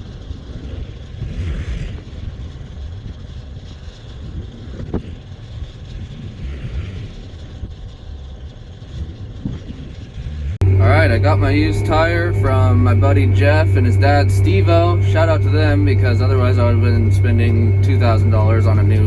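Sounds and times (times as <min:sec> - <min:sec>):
engine and road rumble: 0:00.0 - 0:19.0.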